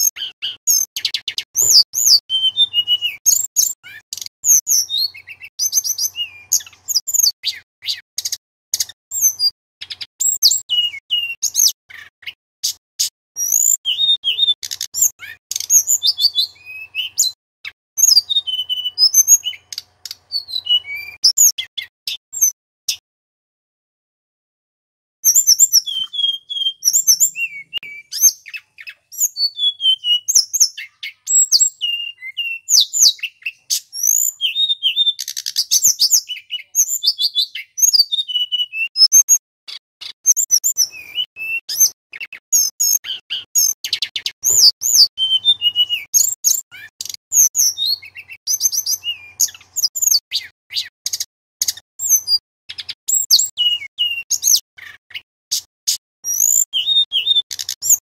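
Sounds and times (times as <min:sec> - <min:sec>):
bird singing: 0:00.0 - 0:12.8, 0:13.4 - 0:22.6, 0:25.3 - 0:58.0.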